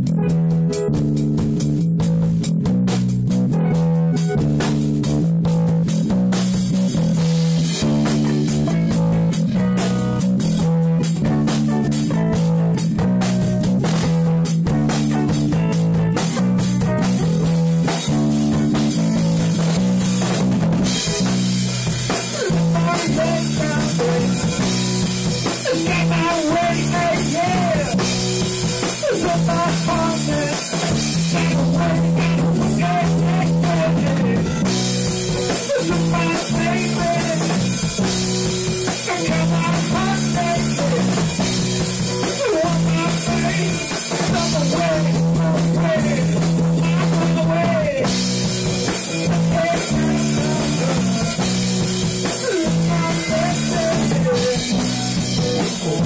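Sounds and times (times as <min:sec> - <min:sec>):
bass notes: 0:00.0 - 0:56.0
drum kit with cymbal wash: 0:00.0 - 0:56.0
guitar with bent notes: 0:00.0 - 0:56.0.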